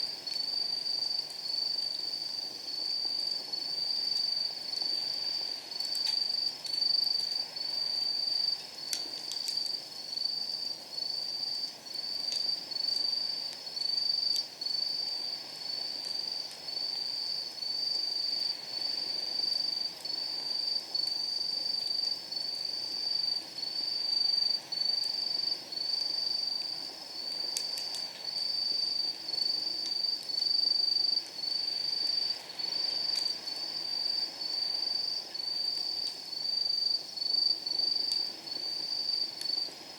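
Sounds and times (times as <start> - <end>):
firewood crackling: 0.0 - 39.9.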